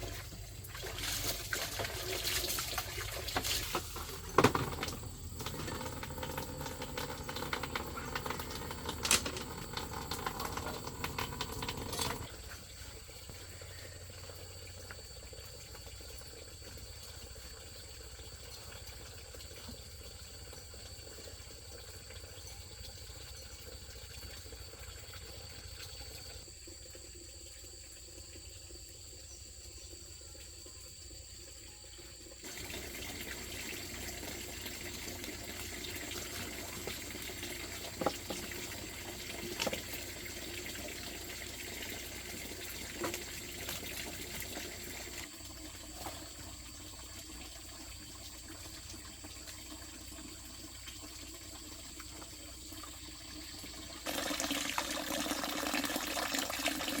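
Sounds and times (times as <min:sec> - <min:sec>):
water running: 0:00.0 - 0:28.5, 0:32.2 - 0:57.0.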